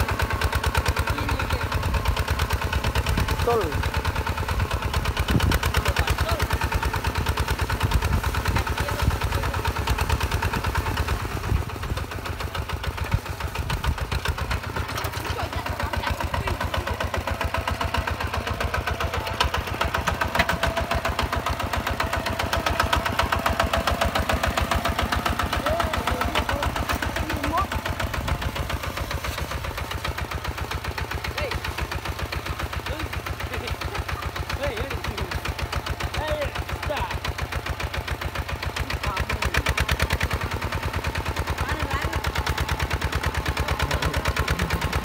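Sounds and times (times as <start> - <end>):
single-cylinder diesel engine running: 0.0 - 45.0.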